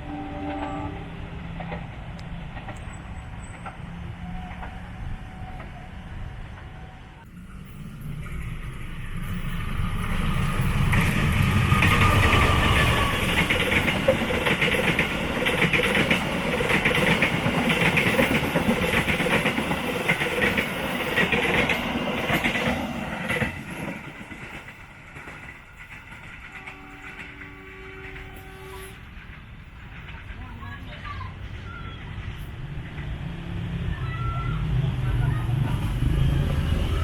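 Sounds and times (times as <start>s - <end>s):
train passing rumble: 0.0s - 37.0s.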